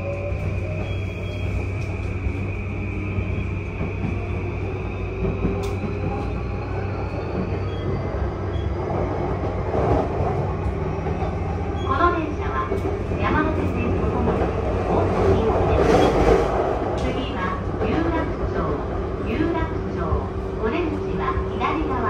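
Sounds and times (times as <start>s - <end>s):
train inverter whine: 0.0s - 22.0s
wheels rumbling on rail: 0.0s - 22.0s.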